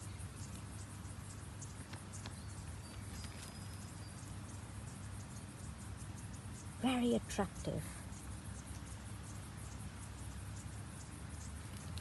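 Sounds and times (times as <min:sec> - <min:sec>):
insect ticks and chirps: 0:00.0 - 0:12.0
steady low hum: 0:00.0 - 0:12.0.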